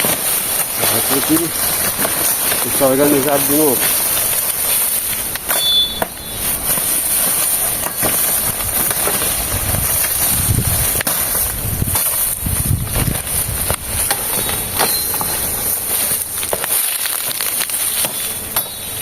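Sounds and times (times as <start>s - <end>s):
dry leaves rustling: 0.0s - 19.0s
steady high hiss: 0.0s - 19.0s.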